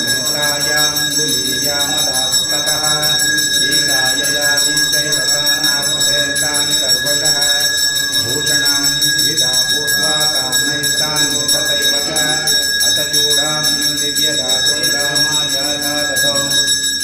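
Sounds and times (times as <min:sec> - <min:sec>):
temple bells ringing: 0:00.0 - 0:17.0
voices chanting: 0:00.0 - 0:17.0.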